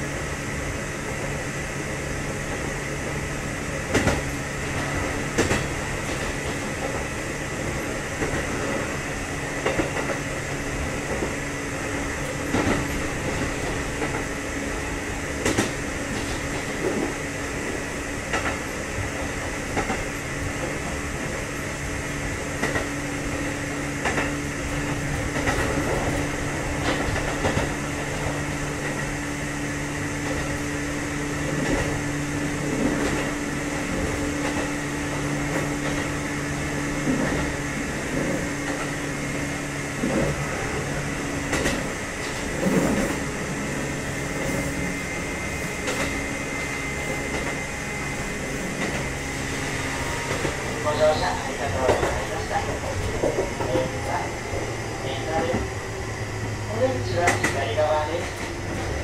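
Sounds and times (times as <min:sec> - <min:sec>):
electric train hum: 0:00.0 - 0:59.0.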